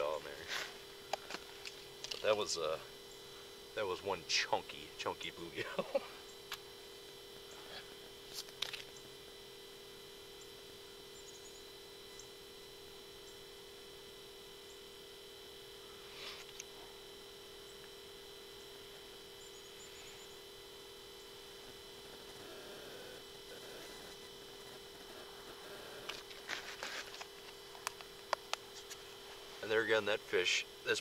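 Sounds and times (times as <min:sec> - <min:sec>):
faint high whine: 0:00.0 - 0:31.0
steady hum: 0:00.0 - 0:31.0.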